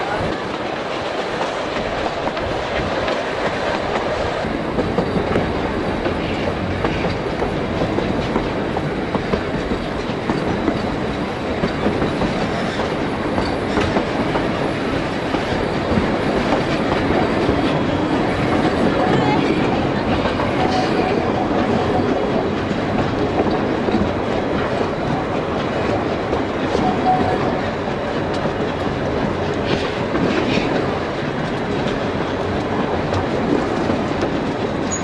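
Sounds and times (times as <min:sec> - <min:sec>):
clacking over rail joints: 0:00.0 - 0:35.0
train wheels rumbling on rail: 0:00.0 - 0:35.0.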